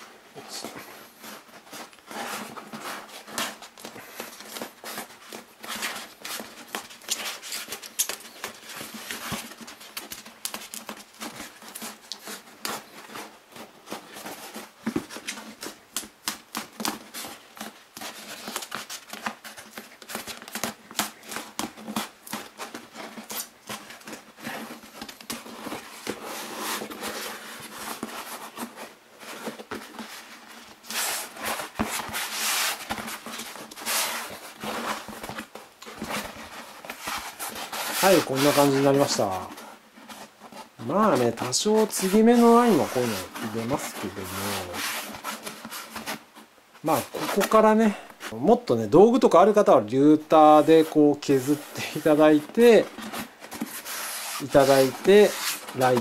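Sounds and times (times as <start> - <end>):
hands rubbing foam: 0.5 - 48.5, 50.3 - 56.0.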